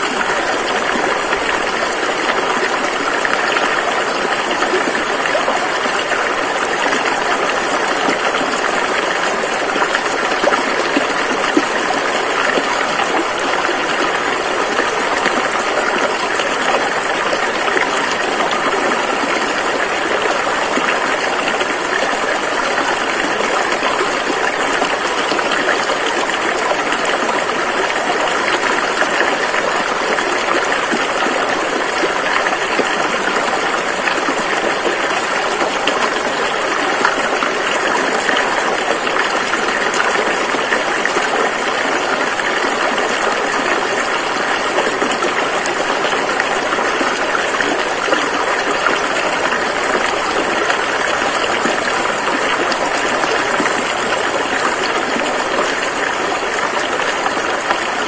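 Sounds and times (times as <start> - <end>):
rushing river rapids: 0.0 - 58.0.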